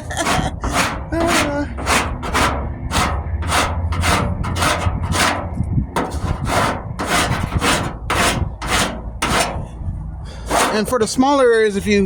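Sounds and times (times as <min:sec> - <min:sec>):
rasp scraping body filler: 0:00.0 - 0:11.2.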